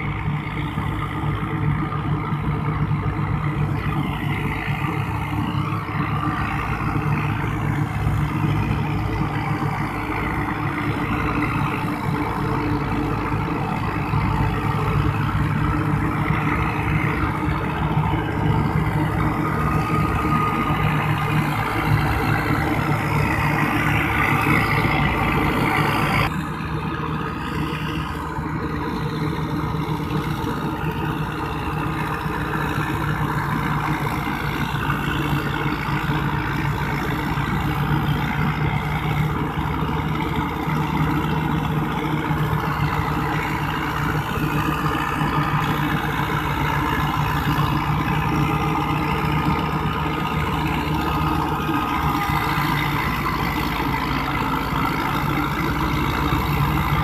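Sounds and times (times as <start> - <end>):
diesel tractor engines droning: 0.0 - 57.0.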